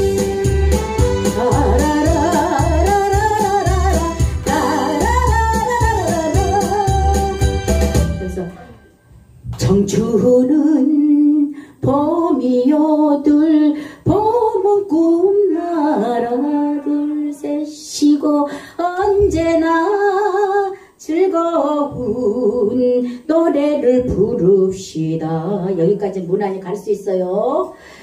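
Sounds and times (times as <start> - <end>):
woman singing into microphone: 1.2 - 7.6, 9.5 - 27.7.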